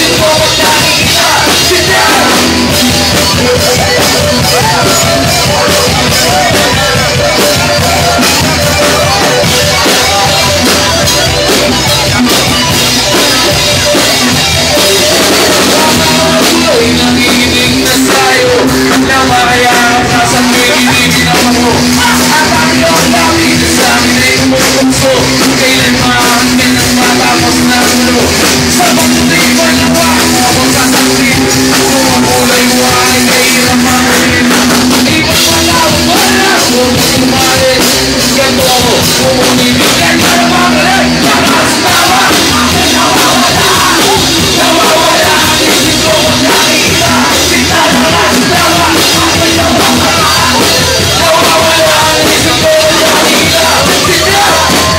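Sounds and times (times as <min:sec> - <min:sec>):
drum kit: 0:00.0 - 0:54.9
rock band playing live: 0:00.0 - 0:54.9.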